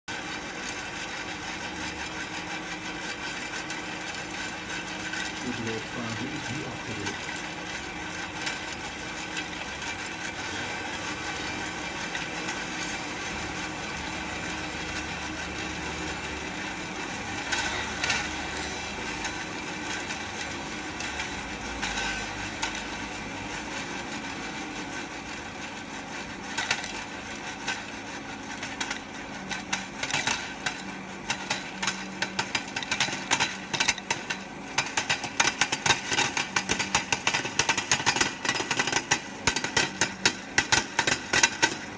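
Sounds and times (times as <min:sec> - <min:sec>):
hot-air fan blowing: 0:00.1 - 0:41.9
popcorn kernels popping: 0:00.1 - 0:41.9.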